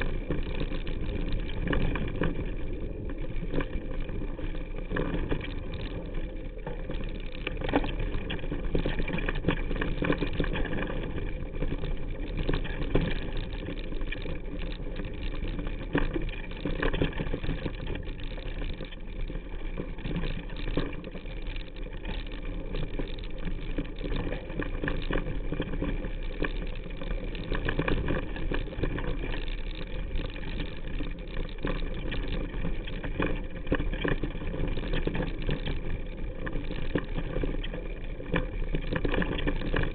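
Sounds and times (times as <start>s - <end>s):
bike knocking and rattling: 0.0s - 39.9s
tyres rumbling over dirt trail: 0.0s - 39.9s.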